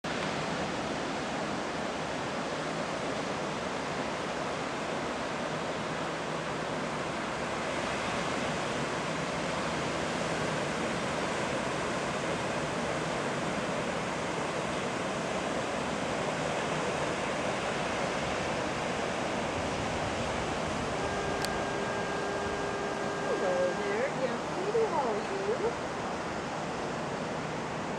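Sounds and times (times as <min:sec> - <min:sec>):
ocean surf rushing: 0:00.1 - 0:27.9.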